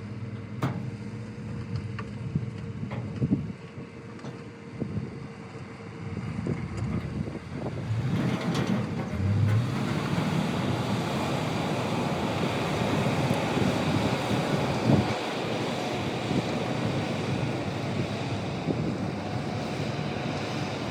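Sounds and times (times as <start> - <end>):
diesel machinery running: 0.0 - 20.9.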